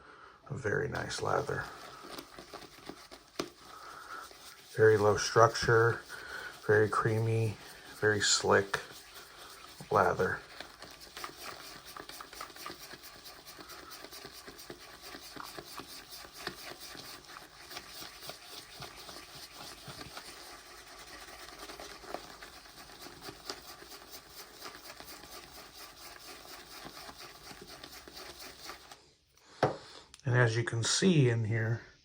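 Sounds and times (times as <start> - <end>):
shaving brush swishing lather: 0.7 - 29.2.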